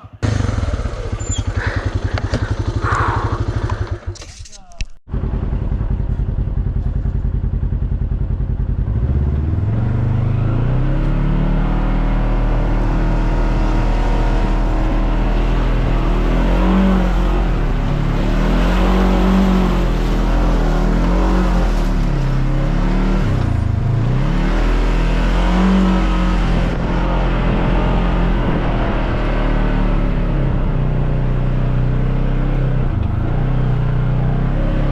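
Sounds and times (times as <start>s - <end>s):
off-road vehicle engine revving: 0.0s - 4.2s, 7.7s - 34.9s.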